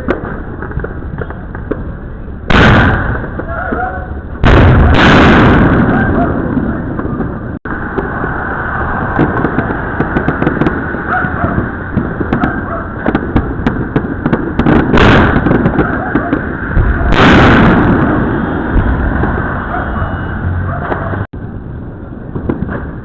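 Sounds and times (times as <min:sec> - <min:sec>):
firecrackers popping: 0:00.0 - 0:20.2, 0:22.2 - 0:23.0
loud firework bursts: 0:00.0 - 0:21.3.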